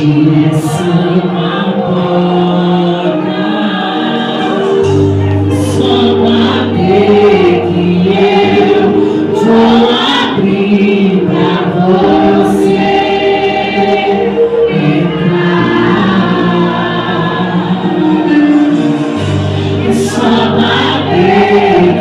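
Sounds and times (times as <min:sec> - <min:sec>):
vocal group singing gospel: 0:00.0 - 0:22.0.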